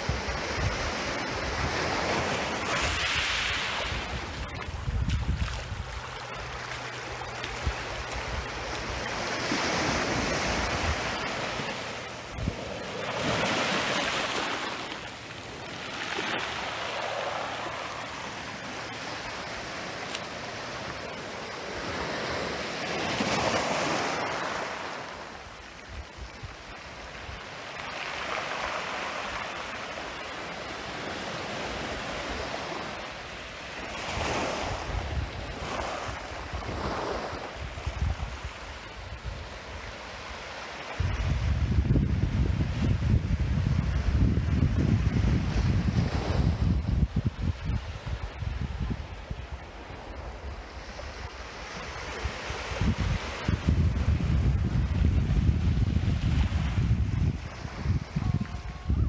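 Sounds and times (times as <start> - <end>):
waves washing up pebbly beach: 0.0 - 59.0.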